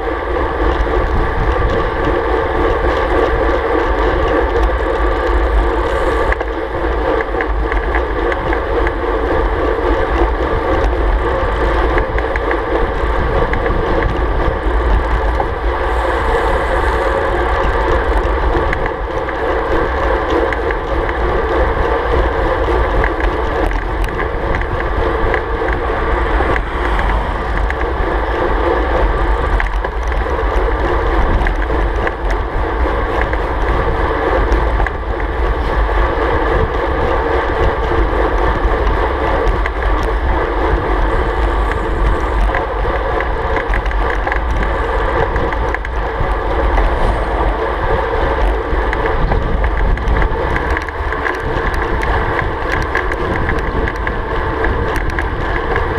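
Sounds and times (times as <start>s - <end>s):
deep continuous rumble: 0.0s - 55.9s
wind buffeting microphone: 0.0s - 55.9s.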